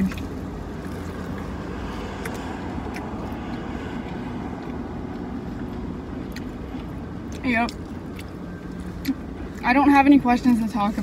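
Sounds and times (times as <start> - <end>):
low rumble inside car: 0.0 - 11.0.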